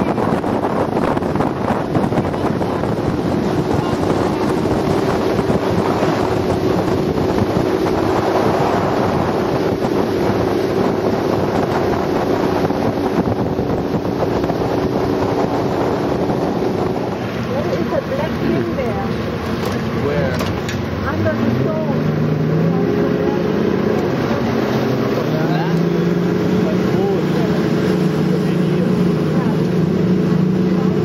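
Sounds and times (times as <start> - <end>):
motorboat engine humming: 0.0 - 31.0
rushing water: 0.0 - 31.0
wind buffeting microphone: 0.0 - 31.0.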